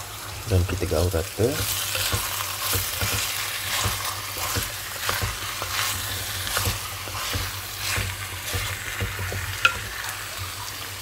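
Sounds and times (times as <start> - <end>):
meat sizzling in a pan: 0.0 - 11.0
utensil scraping and knocking pan: 1.6 - 10.6.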